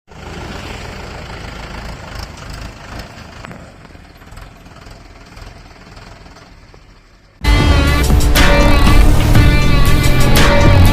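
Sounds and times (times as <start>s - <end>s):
heavy diesel engine running: 0.1s - 10.9s.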